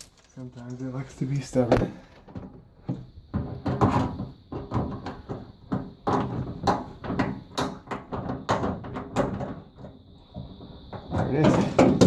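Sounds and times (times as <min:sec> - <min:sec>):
hose knocking and scraping: 0:00.0 - 0:12.0.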